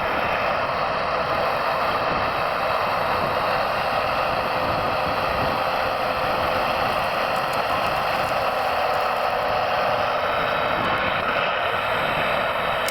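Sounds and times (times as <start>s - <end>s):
model construction machinery whirring: 0.0s - 12.9s.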